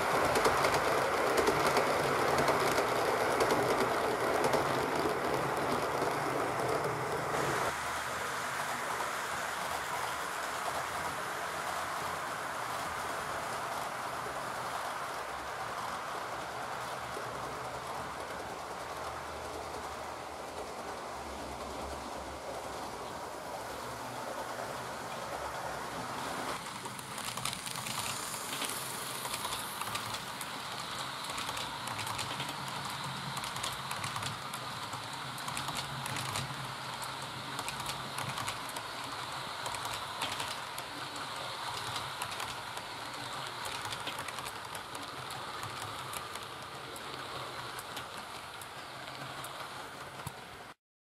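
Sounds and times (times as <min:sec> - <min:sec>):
model train rolling: 0:00.0 - 0:50.8
model train wheels clicking: 0:00.0 - 0:50.8.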